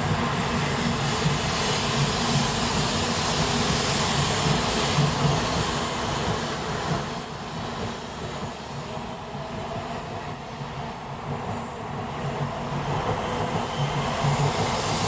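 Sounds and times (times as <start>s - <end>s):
train rushing noise: 0.0s - 15.0s.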